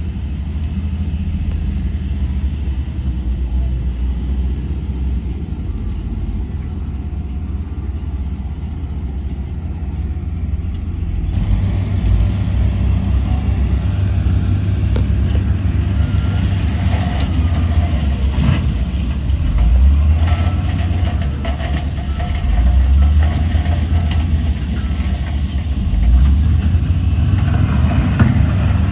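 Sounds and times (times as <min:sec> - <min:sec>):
heavy diesel machinery rumbling: 0:00.0 - 0:28.9.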